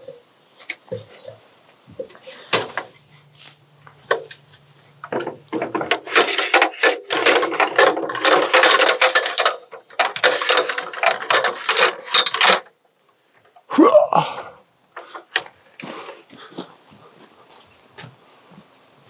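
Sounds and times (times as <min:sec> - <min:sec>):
tools clattering and knocking: 0:00.0 - 0:03.3, 0:04.0 - 0:16.5.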